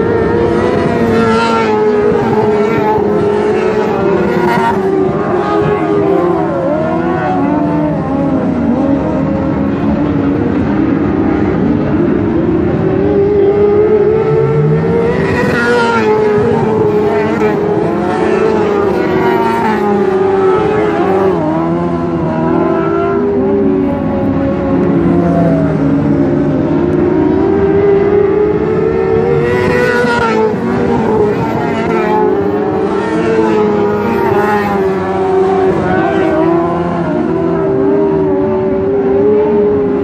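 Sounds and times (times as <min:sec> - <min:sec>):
race car engines: 0:00.0 - 0:40.0.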